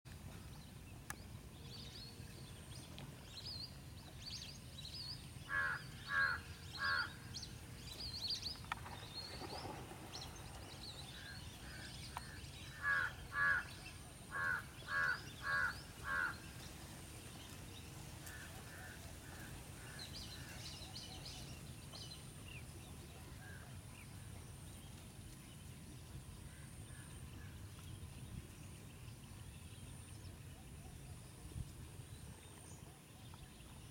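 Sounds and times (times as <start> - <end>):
low outdoor background noise: 0.1 - 33.9.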